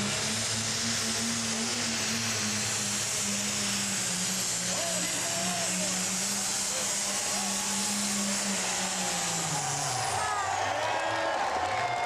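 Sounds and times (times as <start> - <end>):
tractor engine under full load: 0.0 - 11.8.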